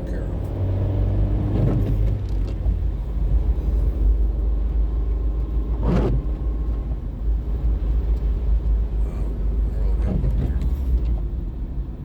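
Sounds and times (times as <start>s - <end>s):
car cabin engine and road rumble: 0.0s - 12.0s.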